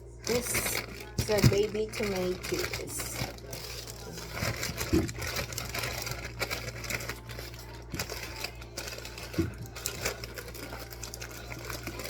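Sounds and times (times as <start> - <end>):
packaging rustling: 0.2 - 12.0.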